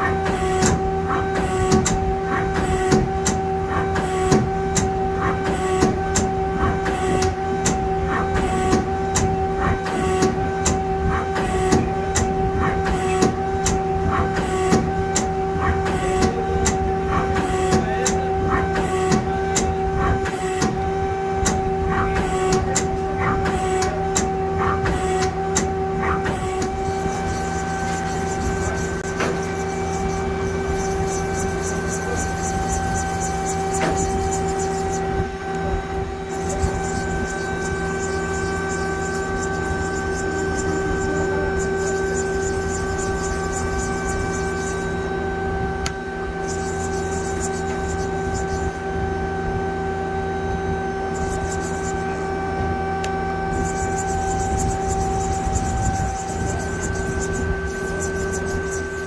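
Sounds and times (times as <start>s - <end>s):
lathe humming and whining: 0.0s - 59.0s.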